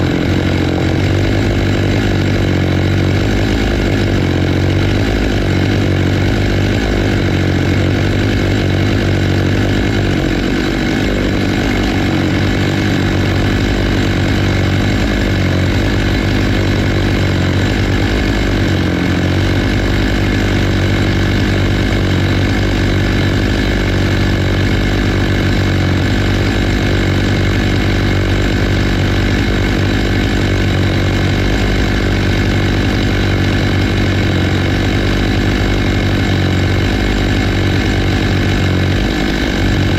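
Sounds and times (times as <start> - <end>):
chainsaw cutting through a log: 0.0 - 39.9.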